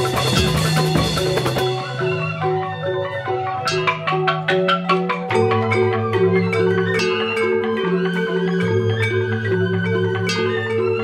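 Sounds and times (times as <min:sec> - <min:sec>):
bamboo xylophones played with mallets: 0:00.0 - 0:11.0.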